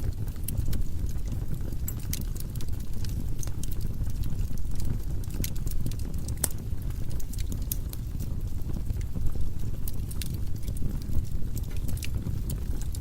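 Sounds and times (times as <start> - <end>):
crackles and pops from logs: 0.0 - 13.0
fire burning in fireplace: 0.0 - 13.0.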